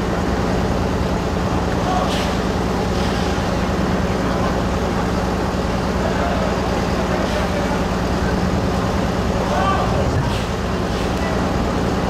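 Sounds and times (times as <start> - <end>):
heavy machinery engine droning: 0.0 - 12.0.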